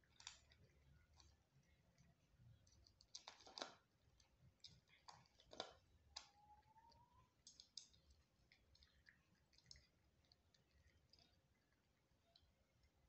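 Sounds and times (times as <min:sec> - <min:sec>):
cat chewing dry kibble: 0:00.0 - 0:13.0.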